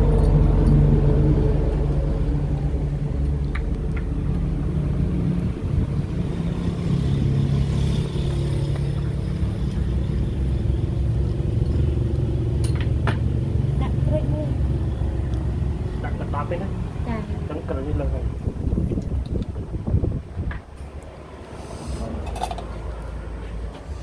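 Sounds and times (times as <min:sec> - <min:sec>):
engine rumbling: 0:00.0 - 0:24.0.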